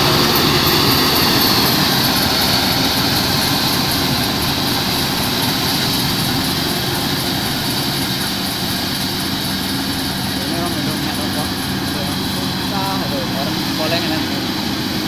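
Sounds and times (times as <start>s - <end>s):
combine harvester mechanical drone: 0.0s - 15.0s.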